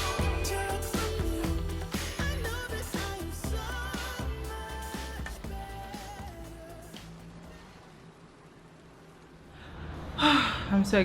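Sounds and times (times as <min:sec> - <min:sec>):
faint room tone hiss: 0:00.0 - 0:11.0.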